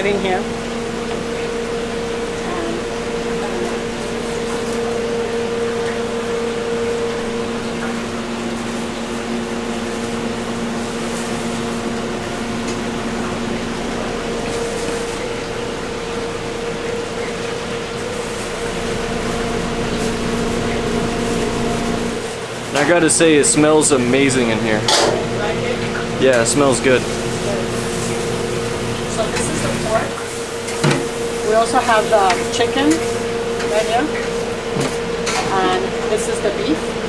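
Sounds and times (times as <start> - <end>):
electric hum: 0.0 - 37.0
fan whir: 0.0 - 37.0.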